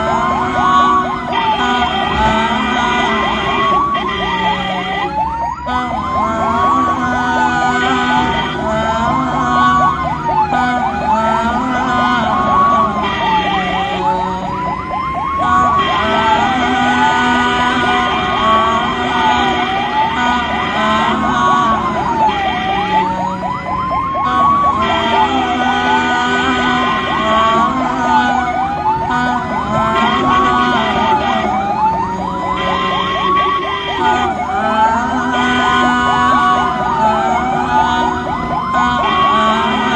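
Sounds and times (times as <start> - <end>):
ambulance siren wailing: 0.0 - 39.9
fast yelping siren: 0.0 - 39.9
horn blaring: 0.0 - 39.9.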